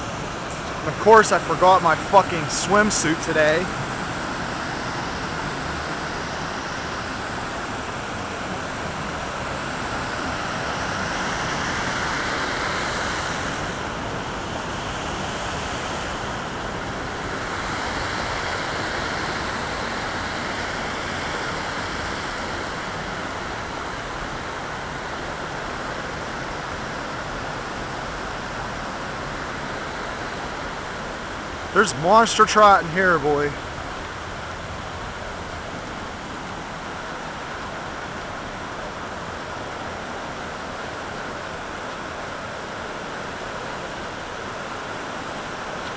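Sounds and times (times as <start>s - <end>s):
waterfall rushing over rocks: 0.0s - 45.9s.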